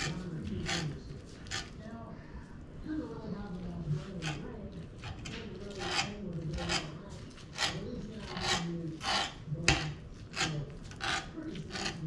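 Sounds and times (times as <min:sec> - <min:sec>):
utensil scraping on wooden board: 0:00.0 - 0:01.8, 0:03.8 - 0:12.0.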